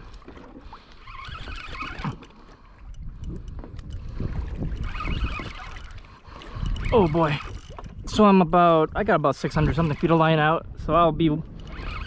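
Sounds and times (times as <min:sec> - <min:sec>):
water washing against kayak hull: 0:00.0 - 0:12.0
wind rumbling on microphone: 0:00.0 - 0:12.0.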